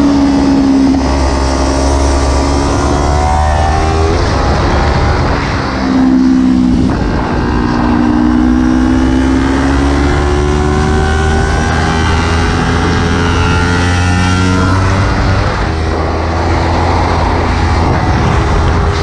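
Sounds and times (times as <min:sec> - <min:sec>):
motorcycle engine accelerating: 0:00.0 - 0:19.0
wind rumble on camera: 0:00.0 - 0:19.0.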